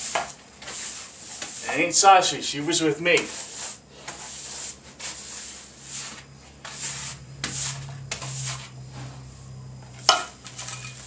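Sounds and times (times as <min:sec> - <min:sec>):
hand brush sweeping hard floor: 0:00.0 - 0:11.0.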